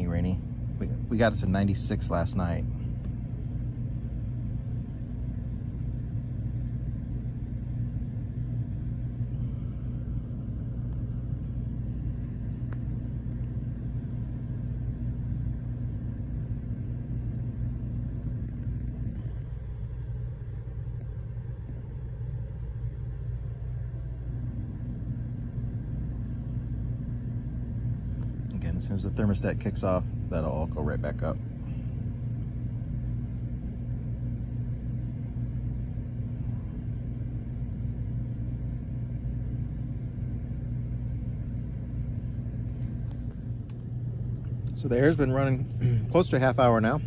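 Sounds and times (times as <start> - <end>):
air conditioner humming: 0.0 - 47.0.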